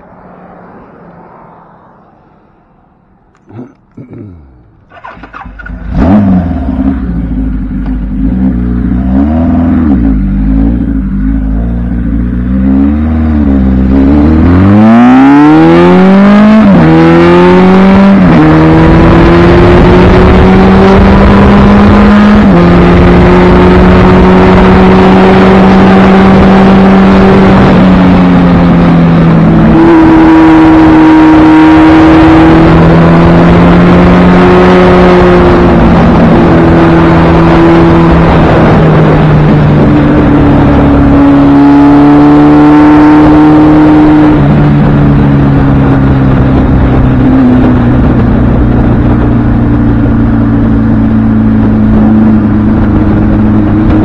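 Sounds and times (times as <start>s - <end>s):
motorcycle engine accelerating: 3.3s - 54.0s
wind noise: 8.3s - 54.0s.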